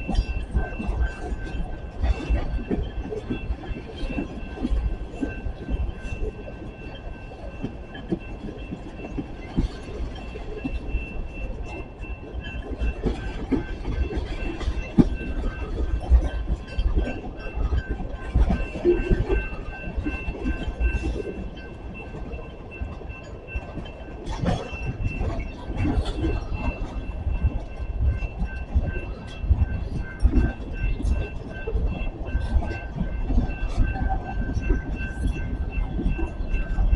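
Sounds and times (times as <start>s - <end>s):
faint high ringing tone: 0.0s - 36.9s.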